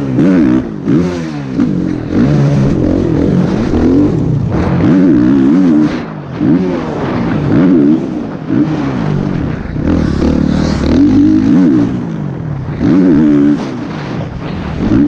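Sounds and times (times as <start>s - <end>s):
motocross bike engine revving: 0.0s - 15.0s
wind noise: 1.9s - 15.0s.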